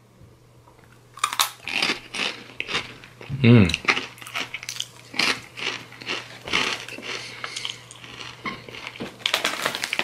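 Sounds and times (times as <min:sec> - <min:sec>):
crunching and chewing tortilla chip: 0:01.1 - 0:10.0.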